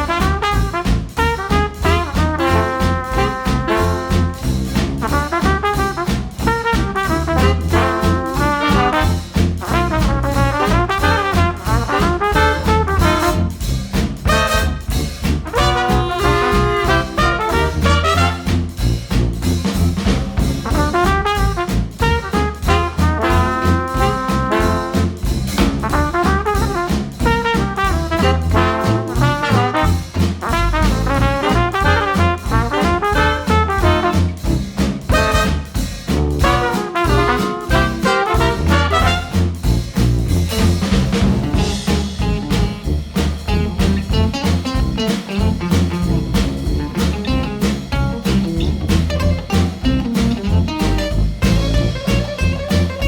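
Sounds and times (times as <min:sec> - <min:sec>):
bouncing bass beat: 0:00.0 - 0:53.0
swing jazz music with brass: 0:00.0 - 0:53.0.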